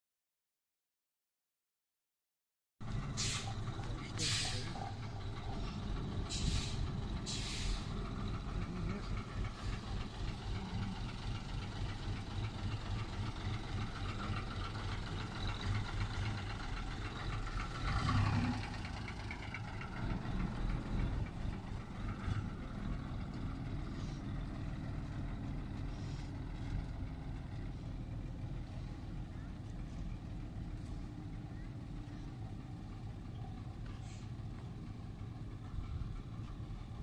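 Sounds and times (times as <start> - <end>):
bus diesel engine running: 2.8 - 37.0.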